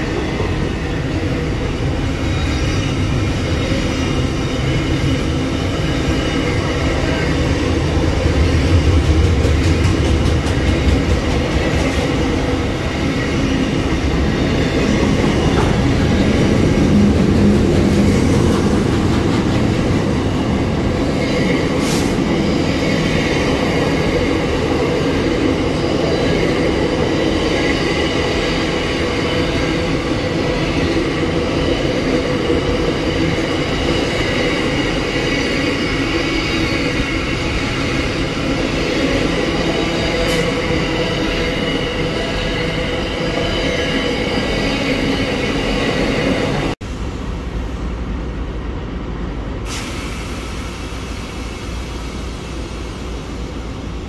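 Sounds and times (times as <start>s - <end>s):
train wheels clattering on rails: 0.0s - 46.8s
diesel locomotive engine rumble: 0.0s - 54.0s.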